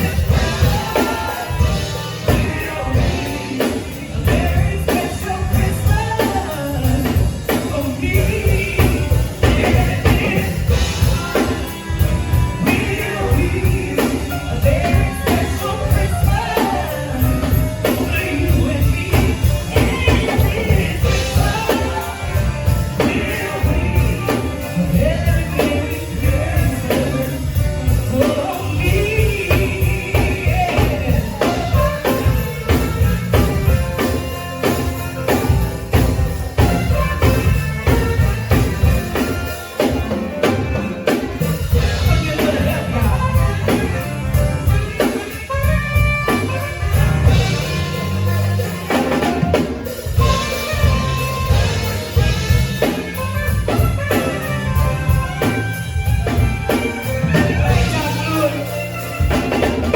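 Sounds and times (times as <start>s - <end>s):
drum kit beat: 0.0s - 59.9s
live band music: 0.0s - 59.9s.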